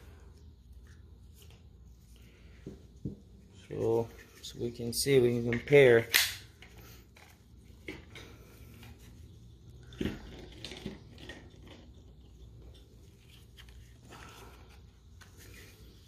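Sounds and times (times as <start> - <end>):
faint handling noises: 0.0 - 16.0.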